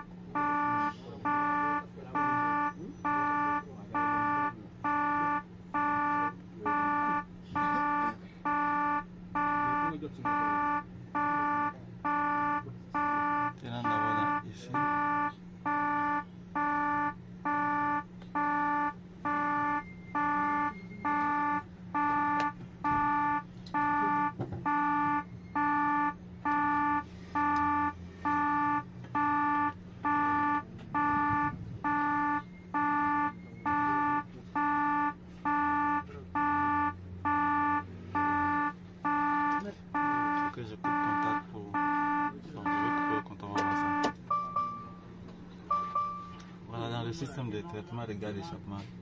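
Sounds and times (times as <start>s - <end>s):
electronic warning buzzer beeping: 0.0s - 45.1s, 45.7s - 46.4s
low steady hum: 0.0s - 49.0s.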